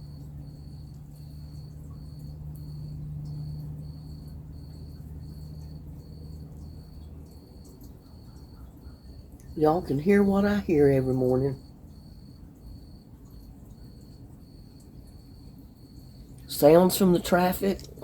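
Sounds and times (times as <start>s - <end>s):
distant highway traffic drone: 0.0s - 18.0s
insect chirping: 0.0s - 18.0s.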